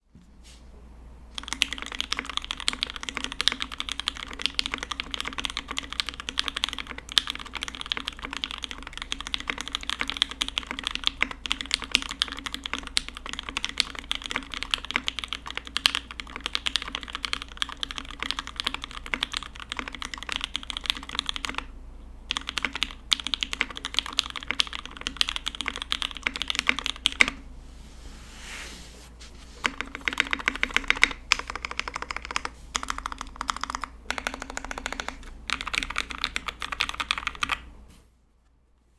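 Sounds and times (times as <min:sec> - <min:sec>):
mechanical keyboard typing: 0:01.4 - 0:21.7, 0:22.3 - 0:27.4, 0:29.6 - 0:37.7.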